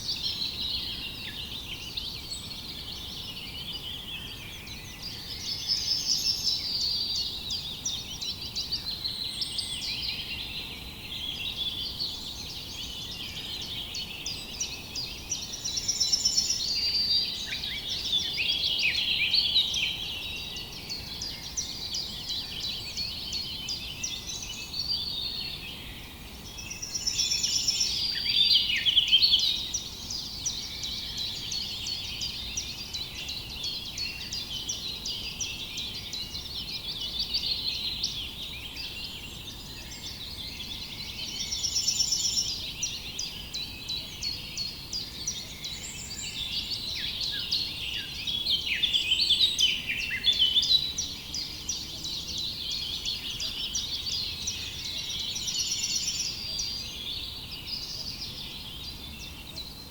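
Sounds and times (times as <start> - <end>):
songbirds chirping and singing: 0.0 - 59.9
steady background hiss: 0.0 - 59.9.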